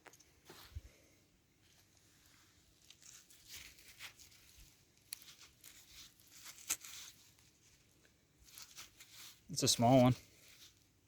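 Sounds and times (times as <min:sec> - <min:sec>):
soil rustling and crunching: 0:00.0 - 0:11.0.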